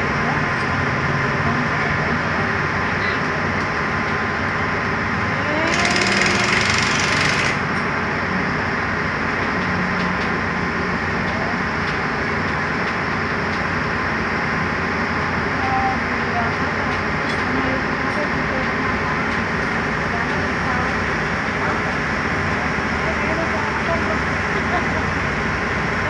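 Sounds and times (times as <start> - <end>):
track-laying machine engine drone: 0.0 - 26.0.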